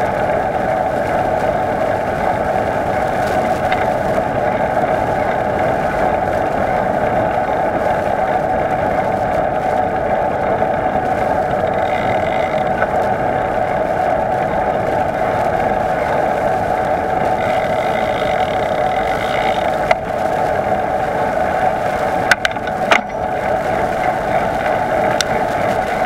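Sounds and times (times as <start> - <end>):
bicycle rolling on pavement: 0.0 - 26.0.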